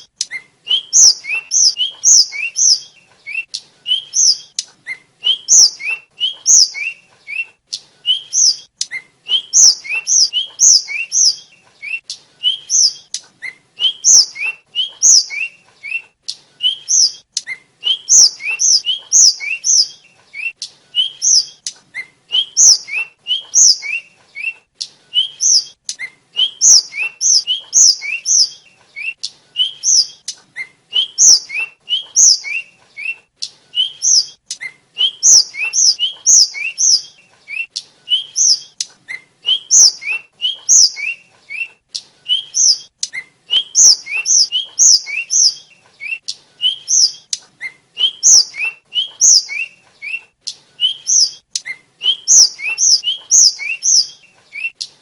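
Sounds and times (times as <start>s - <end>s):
bird singing sharp whistles: 0.0s - 16.0s, 16.6s - 24.6s, 25.2s - 33.2s, 33.8s - 41.7s, 42.3s - 50.2s, 50.8s - 54.8s.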